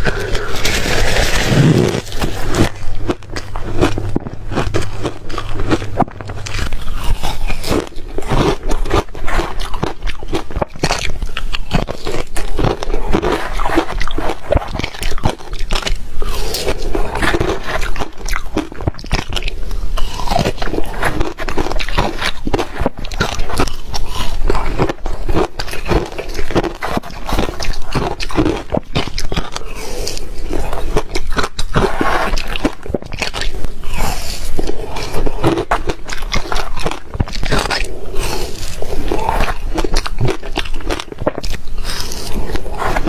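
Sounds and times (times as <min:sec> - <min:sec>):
ice being chewed: 0:00.0 - 0:43.0.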